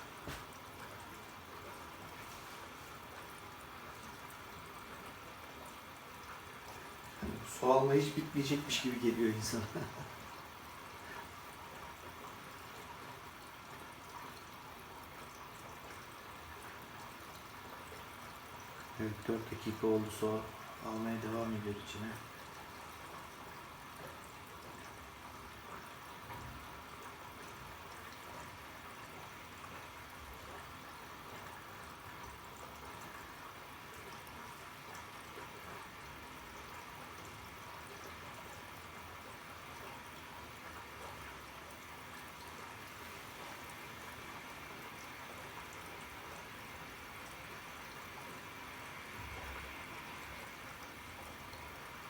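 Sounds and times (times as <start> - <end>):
water rushing into washing machine: 0.0 - 52.0.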